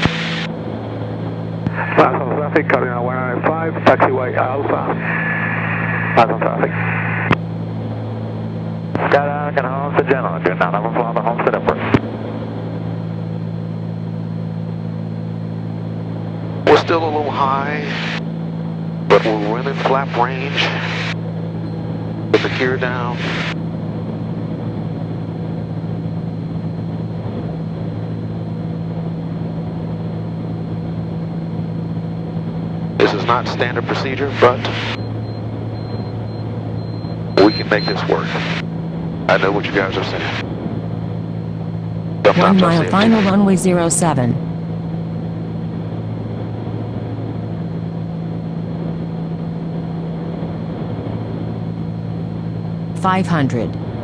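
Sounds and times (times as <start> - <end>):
piston aircraft engines droning: 0.0 - 54.0.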